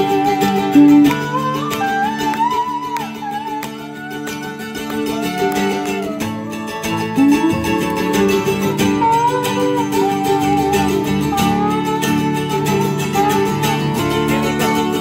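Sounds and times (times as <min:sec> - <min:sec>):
acoustic guitars and mandolin chords: 0:00.0 - 0:15.0
sliding lead guitar line: 0:00.0 - 0:15.0.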